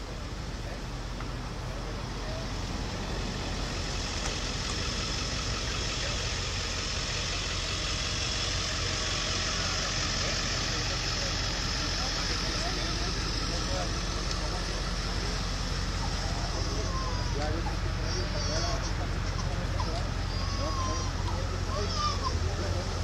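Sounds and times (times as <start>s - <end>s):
engine idling: 0.0s - 23.0s
faint voices: 0.0s - 23.0s
street traffic noise: 0.0s - 23.0s.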